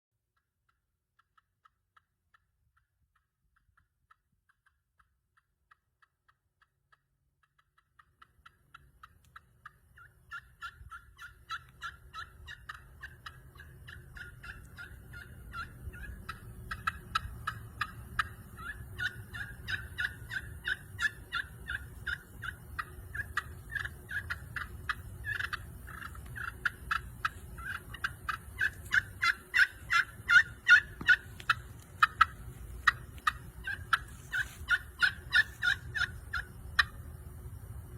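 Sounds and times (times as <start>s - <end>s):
turkey pot call notes: 0.4s - 37.9s.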